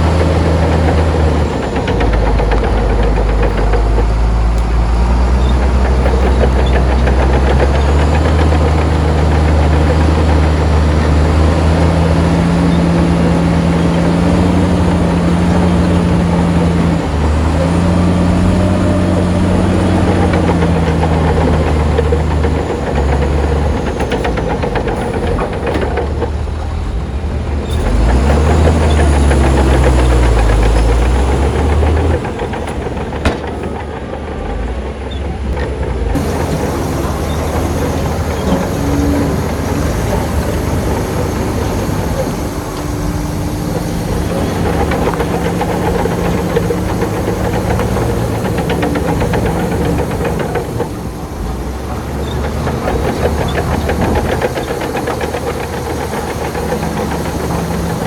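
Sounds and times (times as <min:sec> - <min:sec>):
heavy diesel engine revving: 0:00.0 - 0:58.0.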